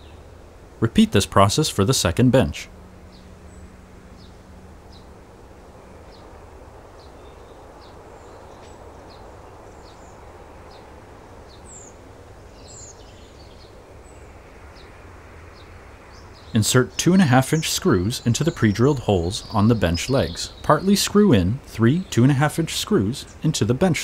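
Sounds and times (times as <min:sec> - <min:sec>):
background hiss: 0:00.0 - 0:24.0
bird chirping: 0:00.0 - 0:24.0
high gliding bird calls: 0:00.0 - 0:24.0.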